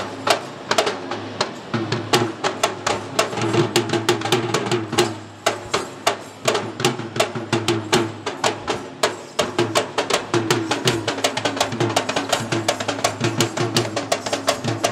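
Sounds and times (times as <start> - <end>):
hand drums fast rhythm: 1.7 - 14.9.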